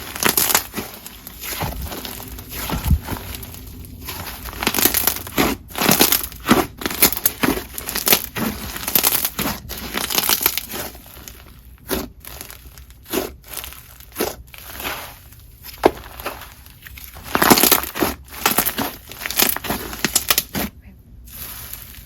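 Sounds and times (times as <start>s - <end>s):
slime crackling: 0.0s - 22.0s.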